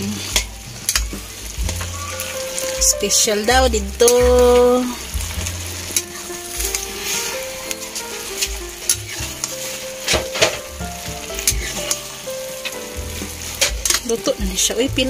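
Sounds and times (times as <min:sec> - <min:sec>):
ladle stirring noodles: 0:00.0 - 0:14.7
noodles sizzling in wok: 0:00.0 - 0:15.0.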